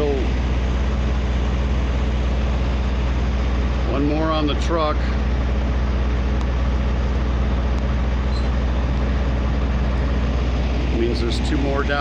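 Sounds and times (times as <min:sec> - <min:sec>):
heavy engine idling: 0:00.0 - 0:12.0.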